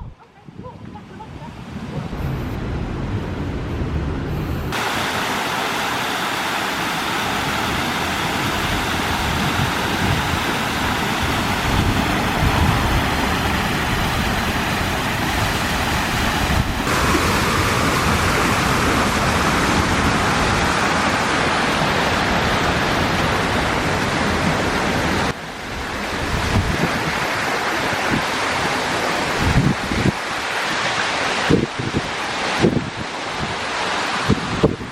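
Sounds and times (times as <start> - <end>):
wind rumble on microphone: 0.0 - 4.8, 7.7 - 30.3, 30.9 - 34.9
waterfall rushing: 4.7 - 34.9.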